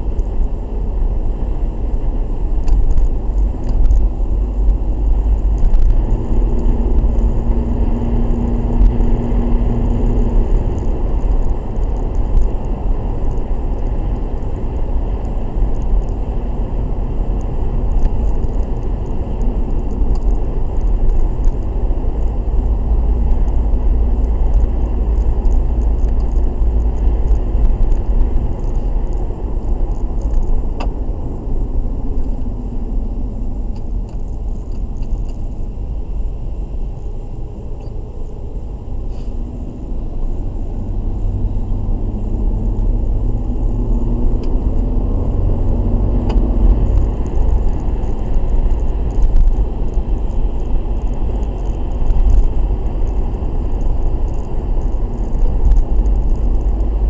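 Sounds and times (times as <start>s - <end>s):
car engine and road rumble: 0.0s - 57.0s
steady hum: 0.0s - 57.0s.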